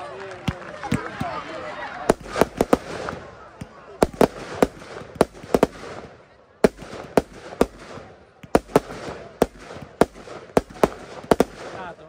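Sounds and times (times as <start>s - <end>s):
firework shells bursting: 2.1s - 12.0s.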